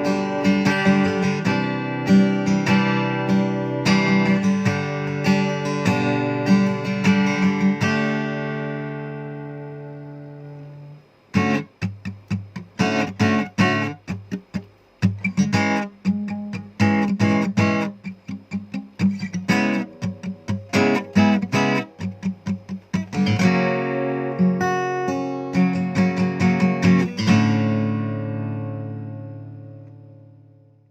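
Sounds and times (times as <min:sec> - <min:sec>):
acoustic guitar chords: 0:00.0 - 0:30.9.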